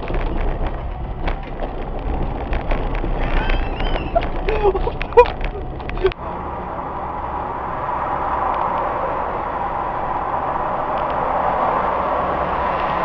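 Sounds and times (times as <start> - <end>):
car driving on road: 0.0 - 13.0.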